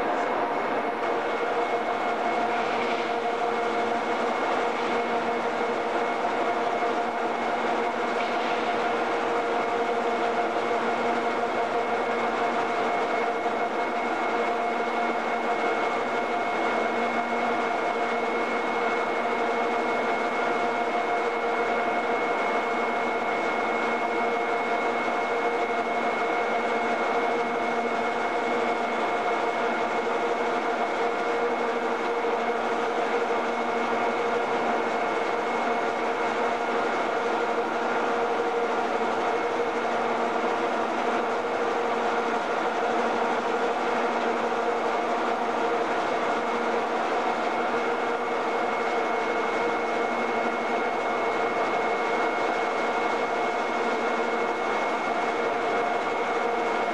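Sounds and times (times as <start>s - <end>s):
machine hum with high whine: 0.0s - 56.9s.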